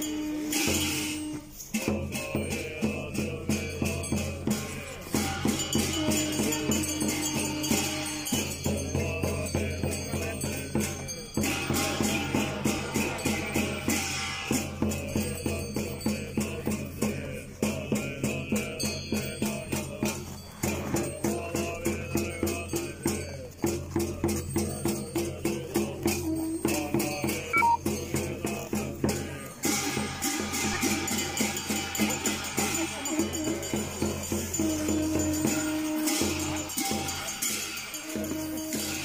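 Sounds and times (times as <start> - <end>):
drums and cymbals beating: 0.0 - 39.0.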